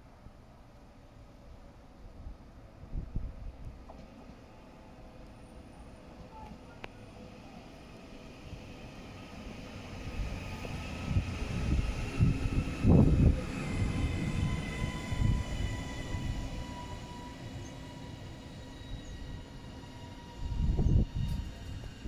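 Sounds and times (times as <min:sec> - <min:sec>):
wheels rumbling on rail: 0:02.2 - 0:22.0.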